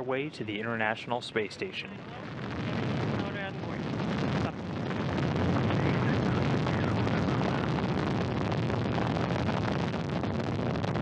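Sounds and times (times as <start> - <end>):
rocket engines roaring and crackling: 0.0 - 11.0.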